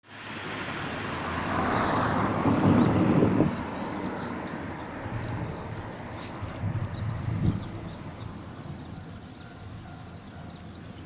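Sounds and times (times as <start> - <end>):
vehicle passing by: 0.1 - 9.1.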